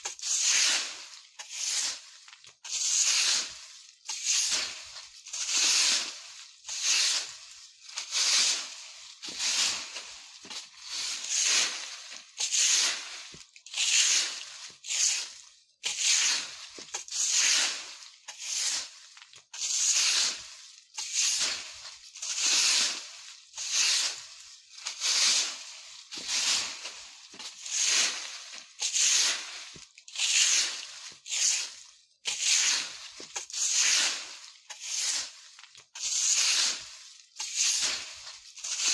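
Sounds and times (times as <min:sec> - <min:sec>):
broom sweeping dry leaves: 0:00.0 - 0:38.9.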